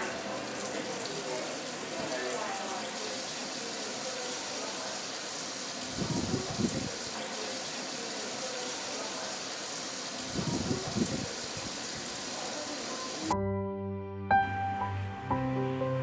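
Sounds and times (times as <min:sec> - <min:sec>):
tap water running into steel sink: 0:00.0 - 0:13.3.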